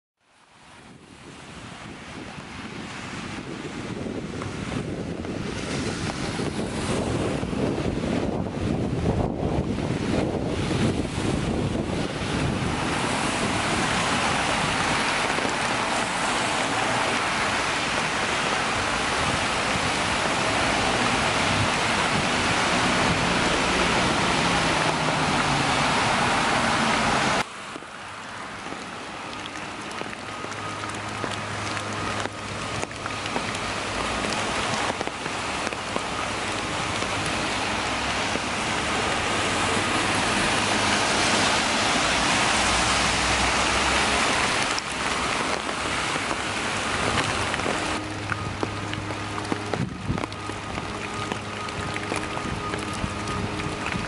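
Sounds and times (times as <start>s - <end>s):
car traffic on wet road: 0.2s - 54.0s
rain on leaves and pavement: 0.2s - 54.0s
water drips: 9.2s - 54.0s.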